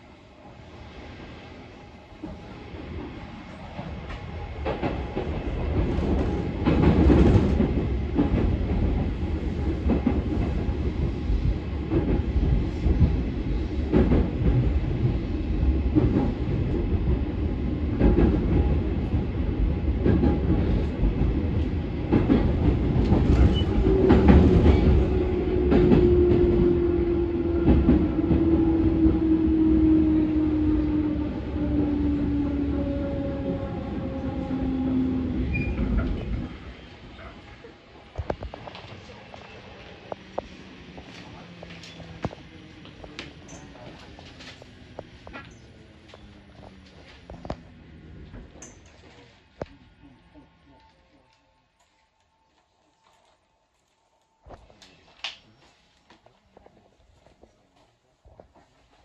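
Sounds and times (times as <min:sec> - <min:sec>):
train wheels rumbling on rail: 0:00.8 - 0:49.3.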